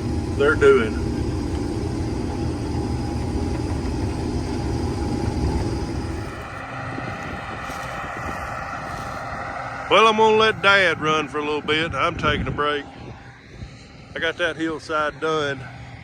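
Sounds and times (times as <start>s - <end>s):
combine harvester running: 0.0s - 16.0s.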